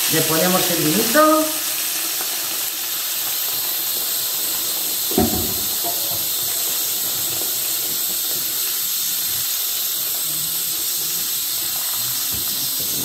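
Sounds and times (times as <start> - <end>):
pressure cooker hissing steam: 0.0 - 13.0.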